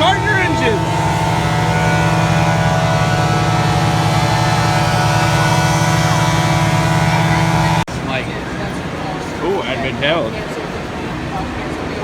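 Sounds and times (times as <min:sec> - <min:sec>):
track dryer engine drone: 0:00.0 - 0:12.0.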